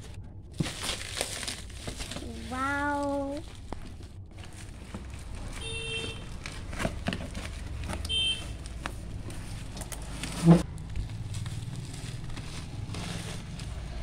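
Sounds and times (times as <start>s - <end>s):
plastic and bubble wrap crinkling: 0.0s - 14.0s.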